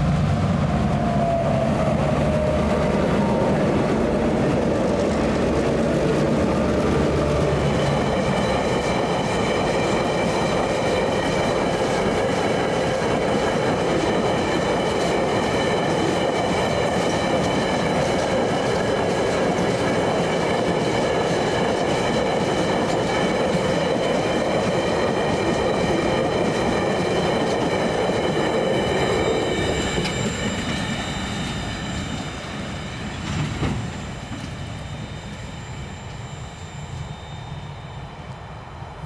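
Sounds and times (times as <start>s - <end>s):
train wheels squealing on rails: 0.6s - 39.0s.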